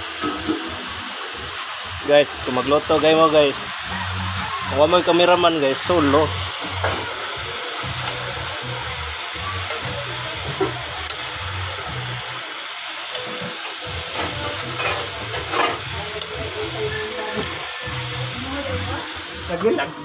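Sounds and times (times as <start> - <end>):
vegetables frying hiss: 0.0 - 20.0.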